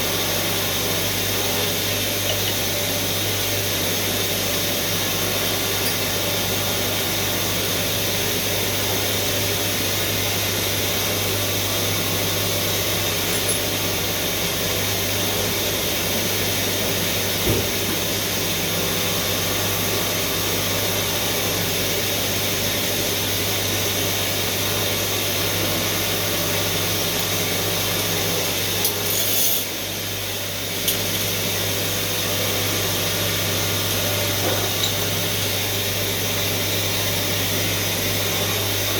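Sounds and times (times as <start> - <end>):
machine tool hum and whir: 0.0 - 38.9.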